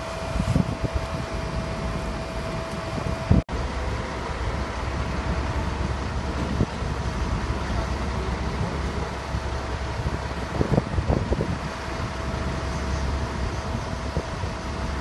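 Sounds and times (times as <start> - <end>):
engines rumbling: 0.0 - 15.0.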